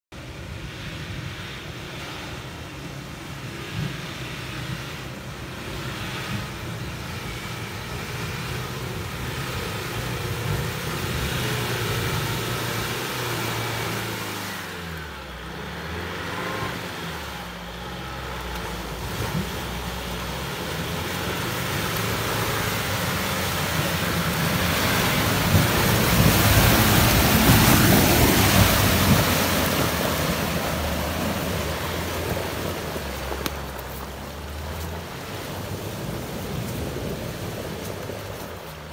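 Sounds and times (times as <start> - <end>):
water and mud splashing: 0.3 - 38.9
off-road vehicle engine revving: 0.6 - 38.9.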